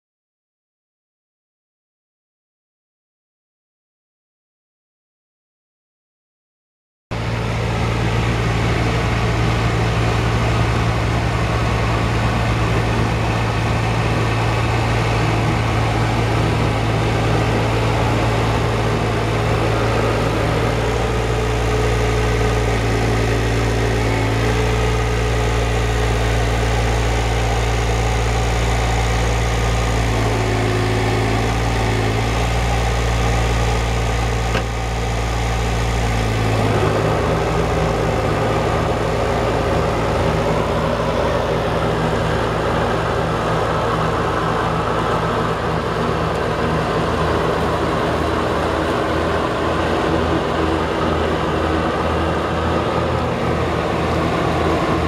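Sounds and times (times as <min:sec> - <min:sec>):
tractor diesel engine running: 0:07.1 - 0:55.0.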